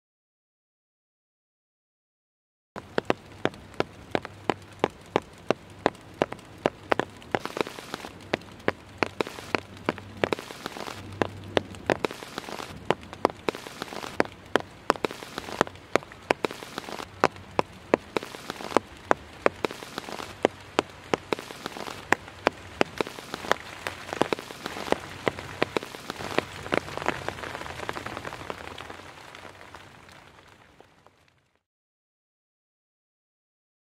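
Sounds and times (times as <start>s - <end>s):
raindrops tapping close by: 2.8s - 31.5s
rain patter: 2.8s - 31.6s.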